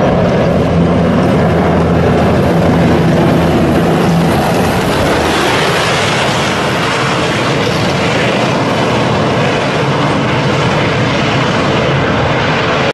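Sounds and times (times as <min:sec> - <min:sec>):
tank driving past: 0:00.0 - 0:12.9.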